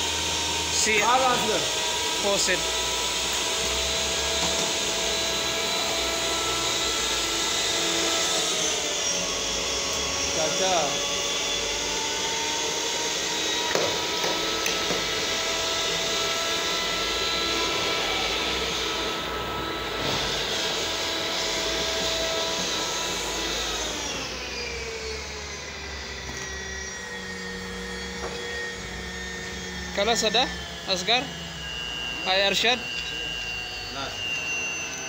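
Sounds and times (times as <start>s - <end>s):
pipe threading machine whine: 0.0s - 35.0s.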